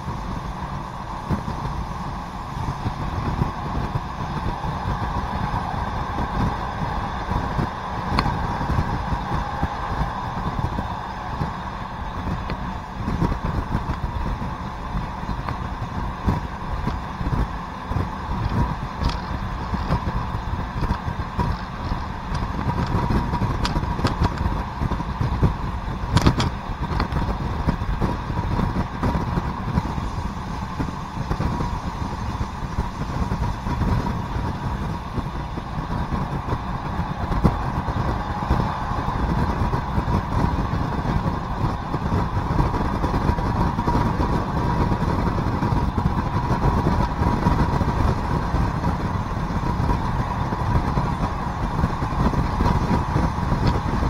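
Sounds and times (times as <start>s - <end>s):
diesel railcar engine running: 0.0s - 54.0s
wheels rumbling on rails: 0.0s - 54.0s.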